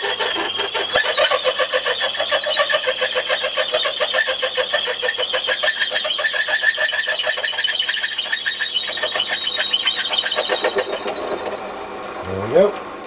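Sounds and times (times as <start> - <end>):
high ringing tone: 0.0 - 11.5
lathe drilling with chatter: 0.0 - 11.6.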